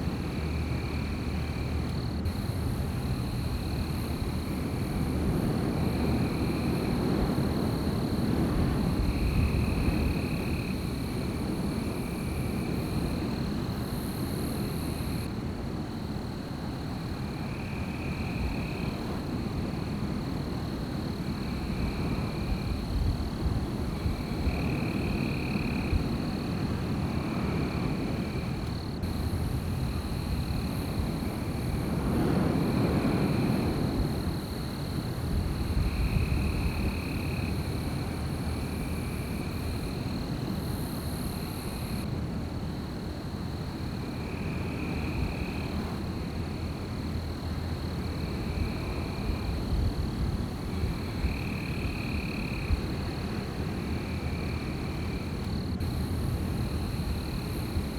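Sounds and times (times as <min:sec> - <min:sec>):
wind gusts: 0:00.0 - 0:57.9.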